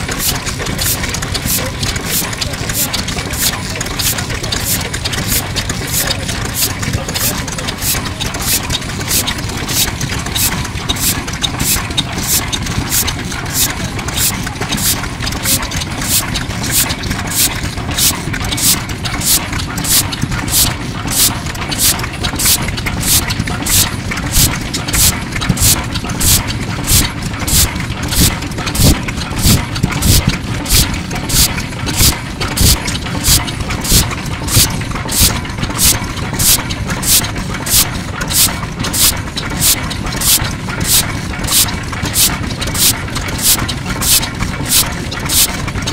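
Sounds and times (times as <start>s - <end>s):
diesel engine running: 0.0s - 45.9s
sharp engine clicks: 0.0s - 45.9s.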